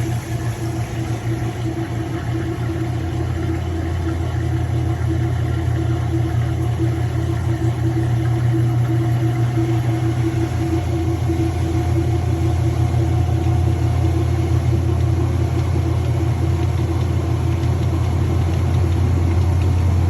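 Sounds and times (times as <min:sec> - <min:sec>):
washing machine motor humming: 0:00.0 - 0:20.0.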